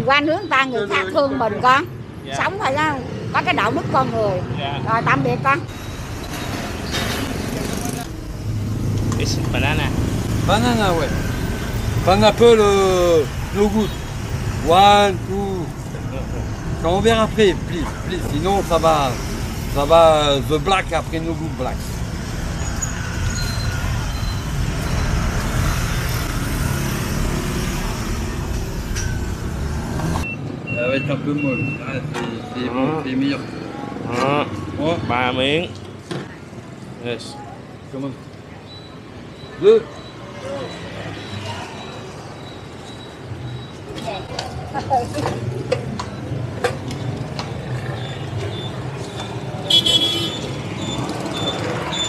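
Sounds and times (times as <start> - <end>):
city road traffic rumble: 0.0 - 52.0.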